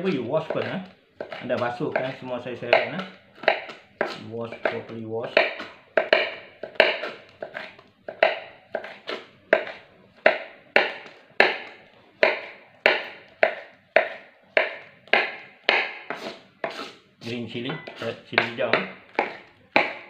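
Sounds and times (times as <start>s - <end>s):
knife chopping on plastic board: 0.0s - 20.0s.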